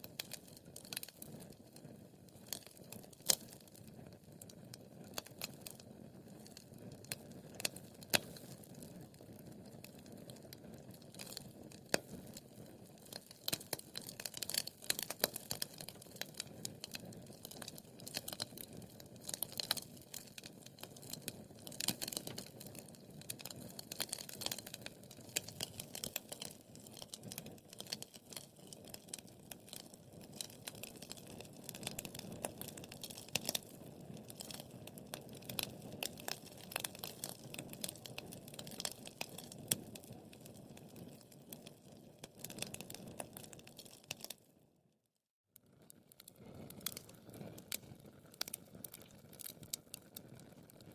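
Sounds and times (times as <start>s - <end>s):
wood fire crackling and popping: 0.0s - 44.5s, 45.6s - 50.9s.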